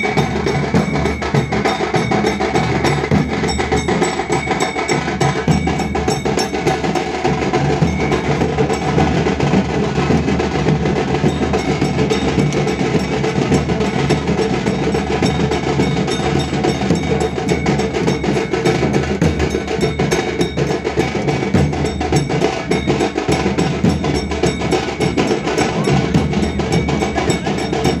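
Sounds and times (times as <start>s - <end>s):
metallic ringing: 0.0s - 10.2s, 10.9s - 28.0s
drums playing fast beat: 0.0s - 28.0s.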